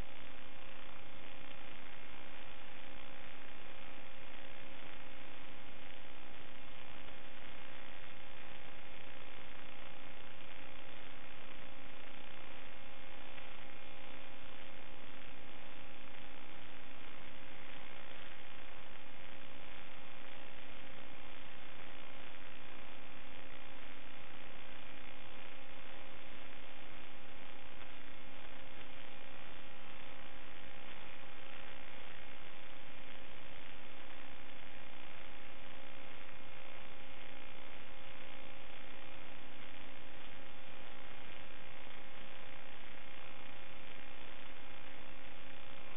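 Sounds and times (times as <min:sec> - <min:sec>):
steady electronic hum and hiss: 0:00.0 - 0:45.9.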